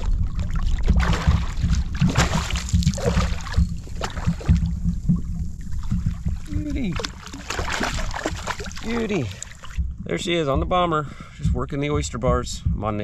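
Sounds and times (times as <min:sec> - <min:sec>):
water splashing and sloshing: 0:00.0 - 0:13.0
wind rumbling on microphone: 0:00.0 - 0:13.0.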